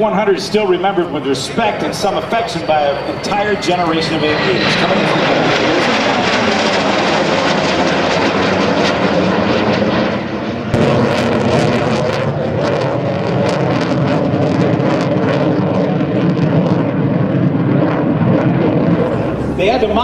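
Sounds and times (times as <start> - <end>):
jet engine flyby: 0.0 - 20.0.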